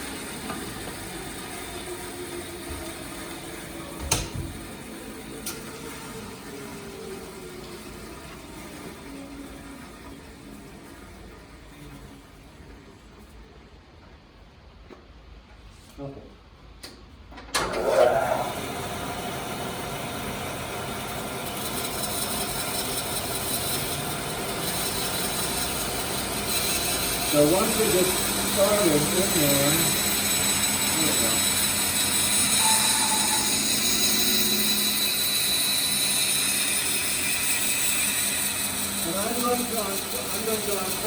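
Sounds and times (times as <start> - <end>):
band saw running: 0.0 - 10.7, 17.7 - 41.0.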